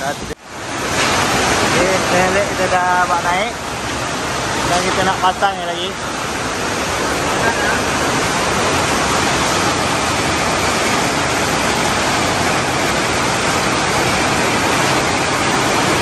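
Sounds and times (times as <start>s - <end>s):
loud rushing noise: 0.0s - 16.0s.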